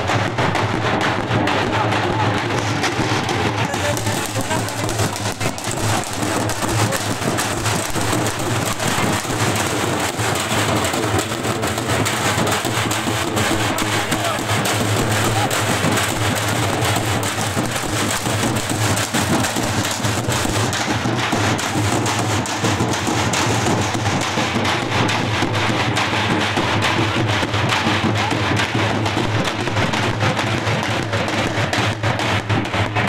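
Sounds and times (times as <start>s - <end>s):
drums beaten rapidly: 0.0s - 33.0s.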